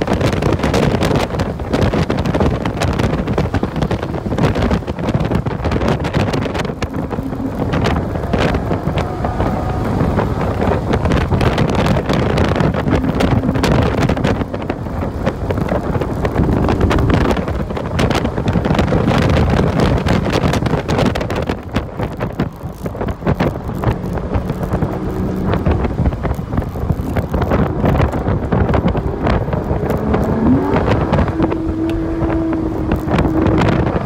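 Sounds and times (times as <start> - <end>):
car engine under load: 0.0 - 34.0
wind and road noise: 0.0 - 34.0
wind buffeting microphone: 0.0 - 34.0.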